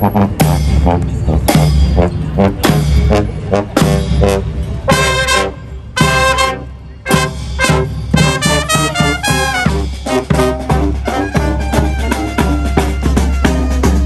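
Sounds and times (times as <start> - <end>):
brass band playing: 0.0 - 14.0
loud drum beats: 0.3 - 5.4, 7.1 - 14.0.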